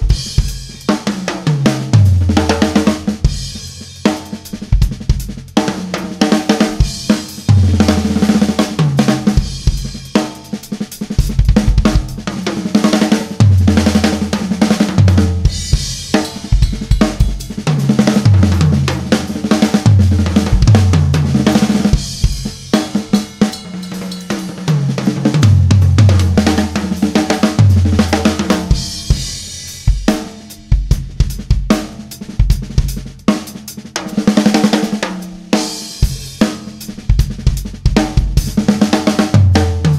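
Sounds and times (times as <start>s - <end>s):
acoustic drum kit groove: 0.0s - 39.9s.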